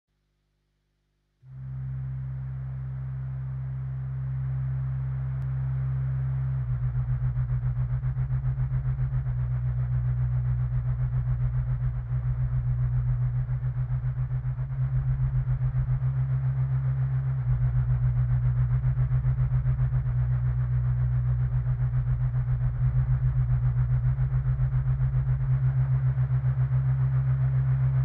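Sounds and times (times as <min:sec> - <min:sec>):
deep bass tones pulsing: 0:01.5 - 0:28.0.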